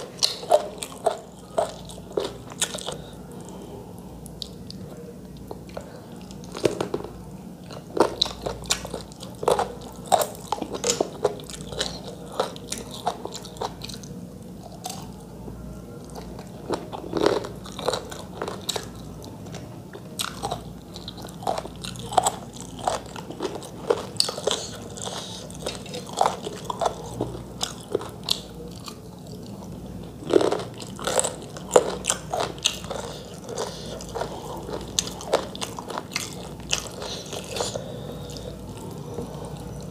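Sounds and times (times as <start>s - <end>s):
person chewing food: 0.0s - 15.2s, 16.0s - 39.9s.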